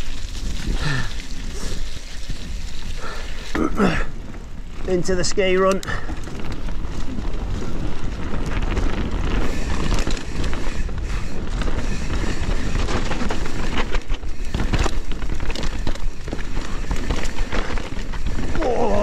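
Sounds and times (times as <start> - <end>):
bike rattling over rough ground: 0.0 - 19.0
wind buffeting microphone: 0.0 - 19.0.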